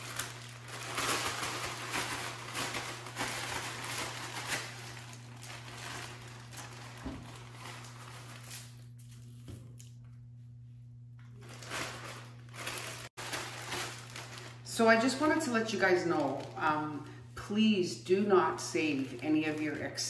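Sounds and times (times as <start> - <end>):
plastic bag crinkling: 0.0 - 9.9, 11.2 - 17.1, 18.6 - 20.0
steady low hum: 0.0 - 20.0.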